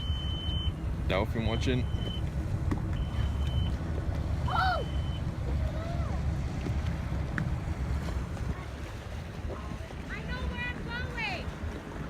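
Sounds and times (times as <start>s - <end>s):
boat motor rumble: 0.0s - 12.0s
wind: 0.0s - 12.0s.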